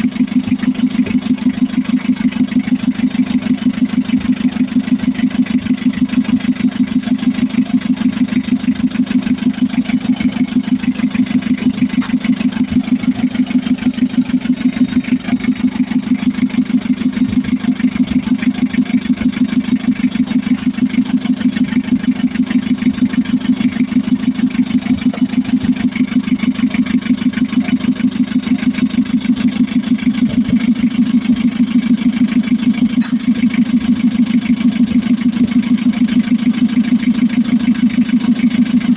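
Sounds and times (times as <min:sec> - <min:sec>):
diesel van engine idling: 0:00.0 - 0:38.9.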